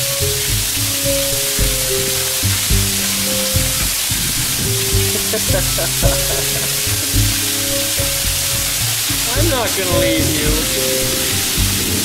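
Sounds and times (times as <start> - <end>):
background music: 0.0 - 12.0
heavy rain pouring: 0.0 - 12.0.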